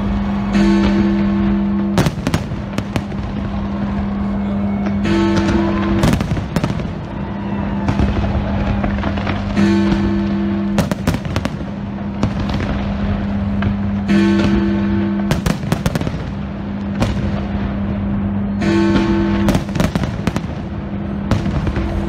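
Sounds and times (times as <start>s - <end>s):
fireworks bursting with sharp bangs: 0.0s - 22.0s
music holding a low note: 0.0s - 22.0s.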